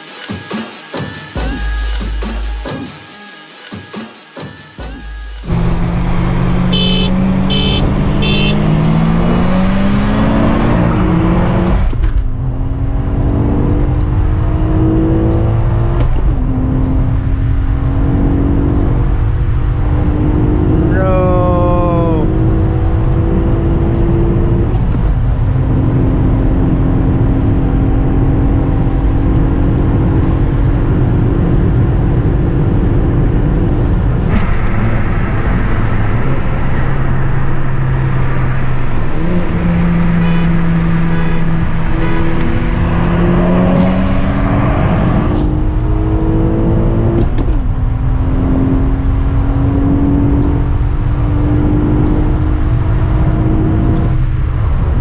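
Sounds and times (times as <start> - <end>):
car engine accelerating hard: 5.4 - 55.0
road and wind noise: 5.4 - 55.0.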